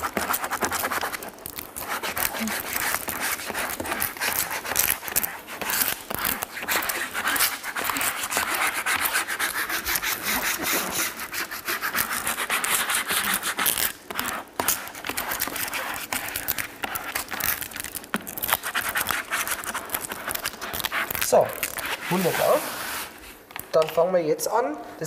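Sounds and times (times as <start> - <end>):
plastic squeegee scraping: 0.0 - 23.5.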